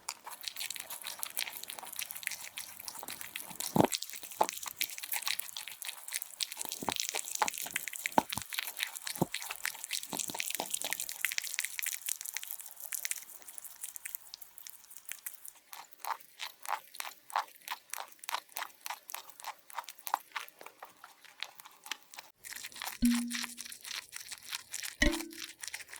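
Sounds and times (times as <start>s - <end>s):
rabbit crunching food: 0.0s - 25.9s.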